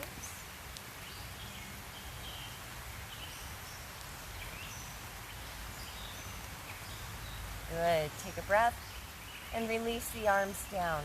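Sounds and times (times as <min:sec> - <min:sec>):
birds chirping: 0:00.0 - 0:11.0
outdoor hiss: 0:00.0 - 0:11.0.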